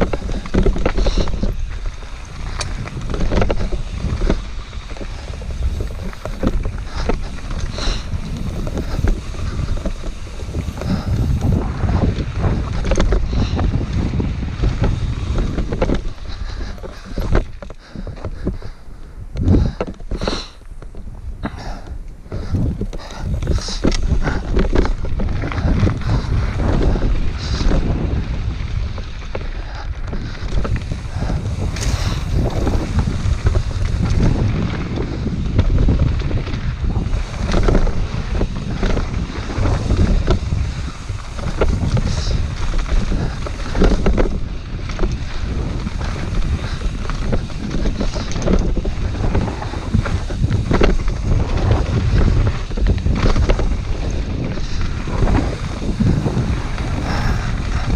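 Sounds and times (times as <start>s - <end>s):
bike clattering over rocks: 0.0s - 57.9s
tyres rumbling on gravel: 0.0s - 57.9s
wind buffeting microphone: 0.0s - 57.9s.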